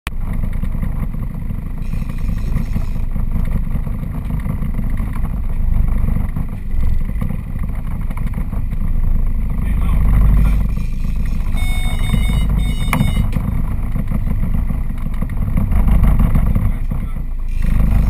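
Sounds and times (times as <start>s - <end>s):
boat engine rumbling: 0.1s - 18.0s.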